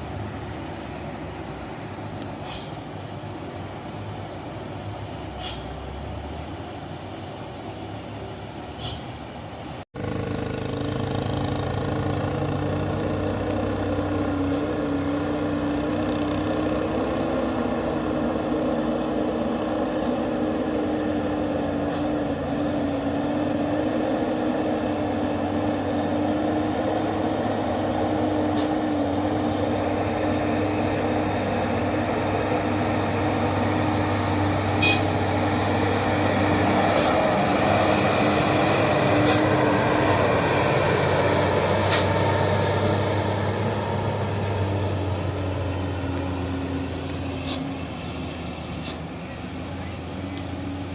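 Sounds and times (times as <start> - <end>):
dump truck engine droning: 0.0 - 50.9.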